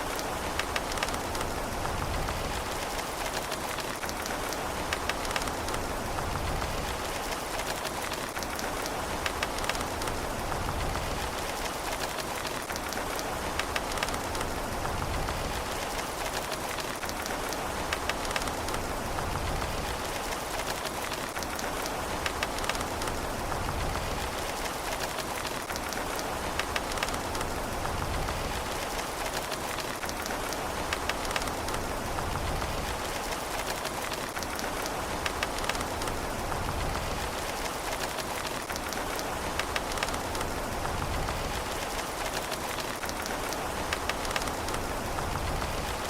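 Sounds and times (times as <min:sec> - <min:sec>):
rain hiss: 0:00.0 - 0:46.0
raindrops clicking: 0:00.0 - 0:46.0.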